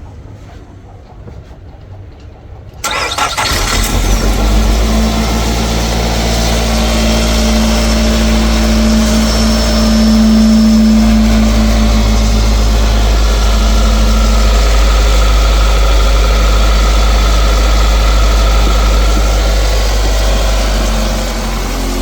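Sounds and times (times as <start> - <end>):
car engine cranking: 2.8 - 22.0
car engine idling: 2.8 - 22.0.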